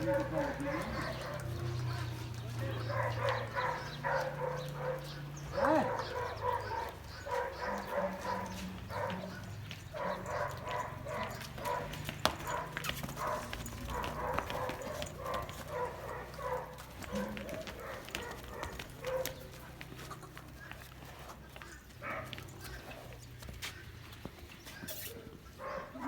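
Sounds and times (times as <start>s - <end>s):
dog barking: 0.0s - 19.8s, 22.0s - 23.0s, 24.9s - 26.0s.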